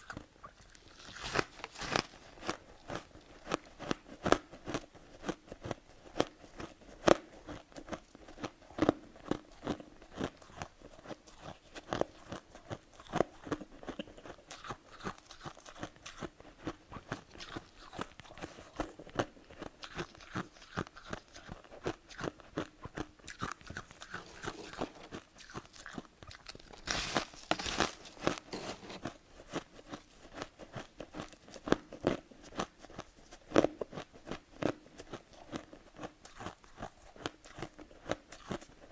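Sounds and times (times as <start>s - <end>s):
crunching of chewed frost: 0.0s - 38.9s.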